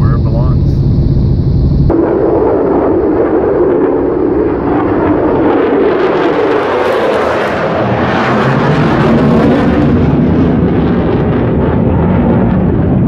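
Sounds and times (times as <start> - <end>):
fighter jets roaring overhead: 0.0 - 13.0.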